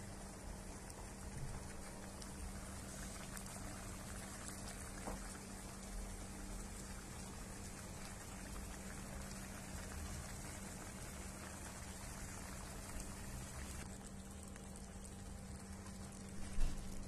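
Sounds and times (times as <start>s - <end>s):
sauce bubbling in a frying pan: 0.0s - 17.0s.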